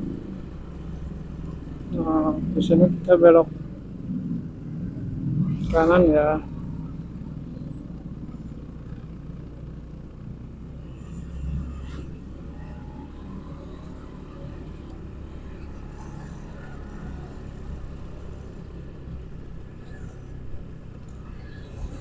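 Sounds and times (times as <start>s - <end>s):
motorcycle engine rumble: 0.0s - 22.0s.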